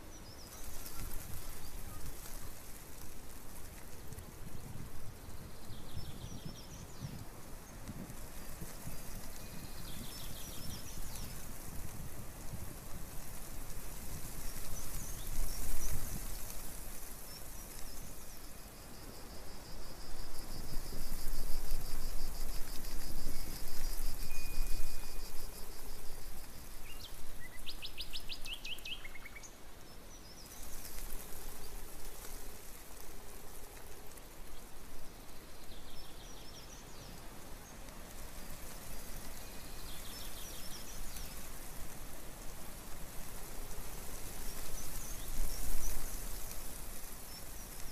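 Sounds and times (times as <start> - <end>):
outdoor hiss: 0.0 - 47.9.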